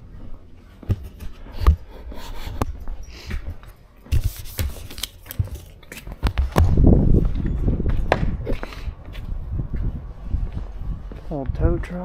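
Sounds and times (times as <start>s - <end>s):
footsteps on concrete floor: 0.0s - 12.0s.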